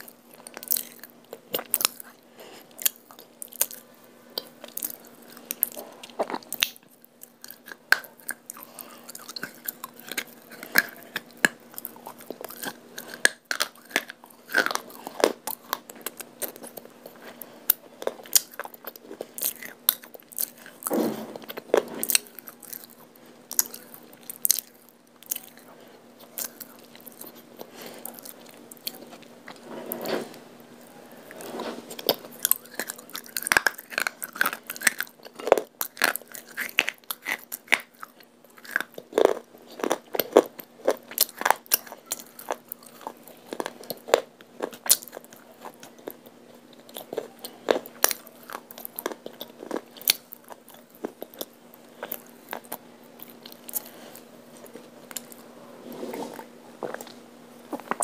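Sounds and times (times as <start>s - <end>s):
crunchy chewing of clay: 0.0s - 58.0s
faint steady hum: 0.0s - 58.0s.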